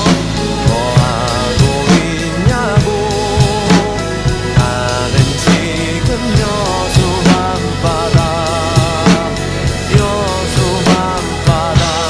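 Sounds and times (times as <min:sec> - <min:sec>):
drum kit beat: 0:00.0 - 0:12.0
pop song instrumental: 0:00.0 - 0:12.0.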